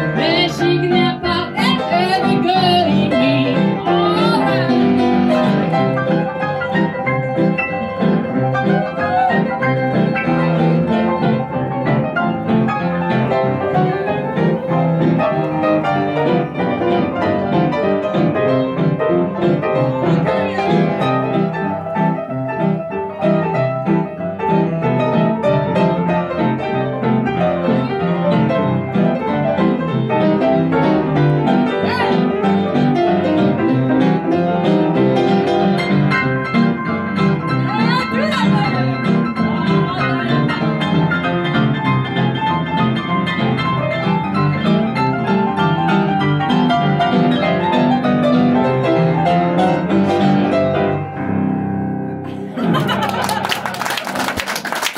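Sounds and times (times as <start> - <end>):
blues piano solo: 0.0 - 54.9.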